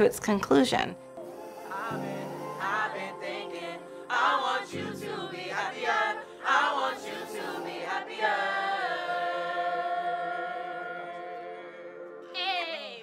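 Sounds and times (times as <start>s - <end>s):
group singing a cappella: 1.2s - 12.3s.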